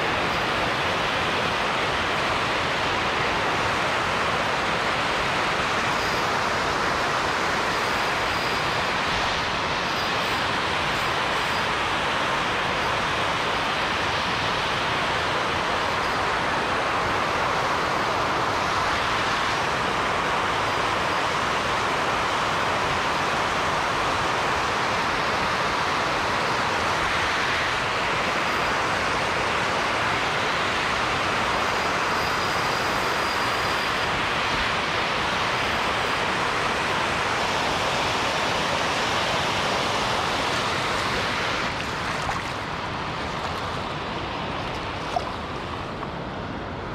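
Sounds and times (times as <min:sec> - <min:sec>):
water rushing over weir: 0:00.0 - 0:46.9.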